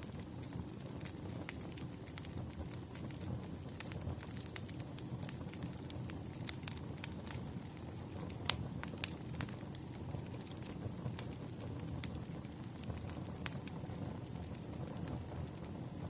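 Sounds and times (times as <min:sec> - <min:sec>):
firewood crackling and popping: 0:00.0 - 0:16.0
low steady fire rumble: 0:00.0 - 0:16.0.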